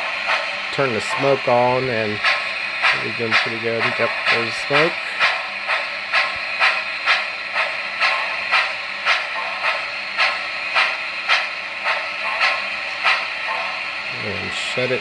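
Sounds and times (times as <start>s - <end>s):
constant steam hiss: 0.0s - 15.0s
steam locomotive chuffing: 0.0s - 15.0s.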